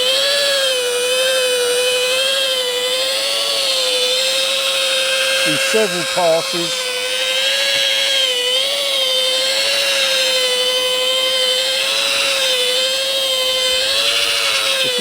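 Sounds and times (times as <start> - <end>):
rotary polisher whine: 0.0 - 15.0.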